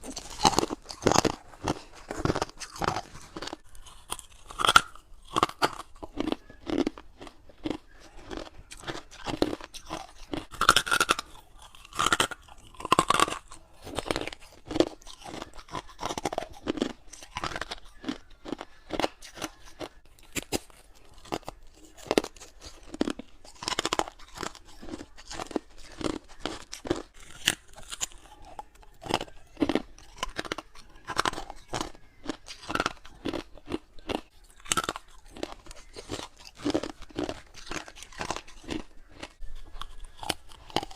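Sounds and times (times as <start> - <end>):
crunching ice cubes: 0.0 - 40.9.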